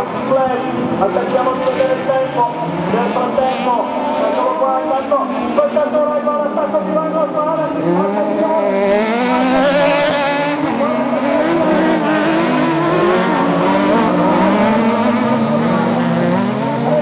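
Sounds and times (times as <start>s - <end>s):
race engines revving: 0.0s - 17.0s.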